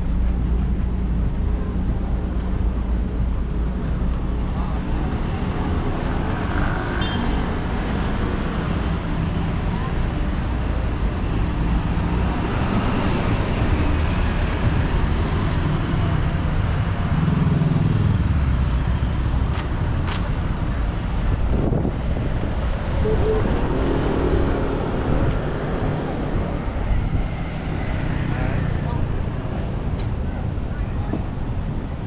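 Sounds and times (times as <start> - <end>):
traffic passing: 0.0 - 32.0.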